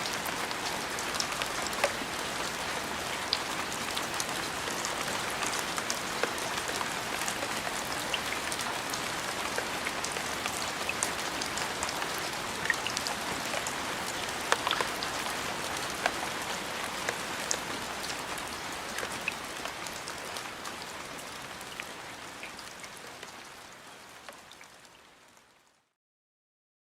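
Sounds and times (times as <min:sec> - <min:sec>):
rain on a hard surface: 0:00.0 - 0:26.0.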